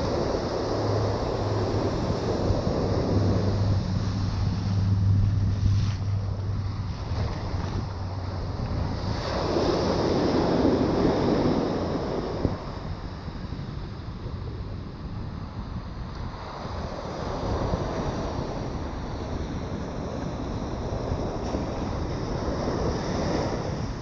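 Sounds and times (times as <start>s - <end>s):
ocean surf breaking on beach: 0.0s - 24.0s
wind buffeting microphone: 0.0s - 24.0s.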